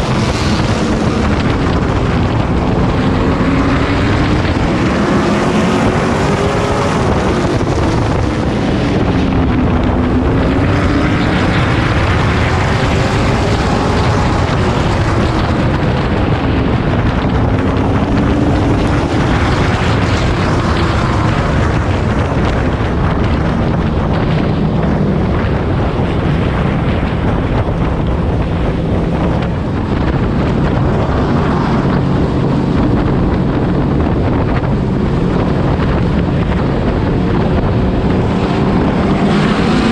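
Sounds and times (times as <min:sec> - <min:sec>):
race truck engine revving: 0:00.0 - 0:39.9
wind noise on microphone: 0:00.0 - 0:39.9.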